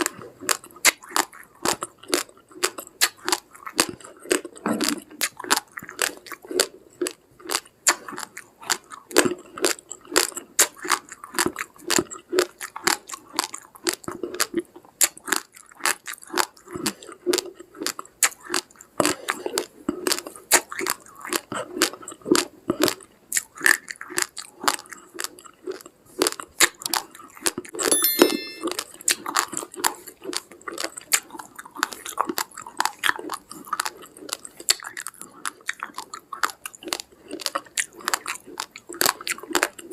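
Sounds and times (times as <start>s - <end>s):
chewing crunchy rice grains: 0.0s - 27.7s, 29.6s - 39.9s.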